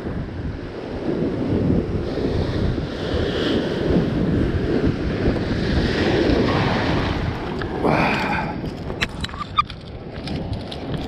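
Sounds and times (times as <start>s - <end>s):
ocean surf washing against rocks: 0.0s - 11.0s
wind buffeting microphone: 0.0s - 11.0s.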